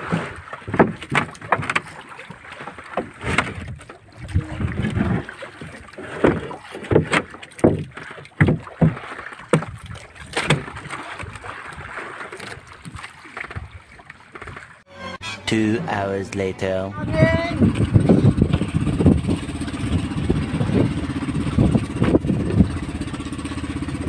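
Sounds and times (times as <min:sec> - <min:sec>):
water sloshing: 0:00.0 - 0:14.9, 0:17.0 - 0:24.0
wind: 0:00.0 - 0:24.0.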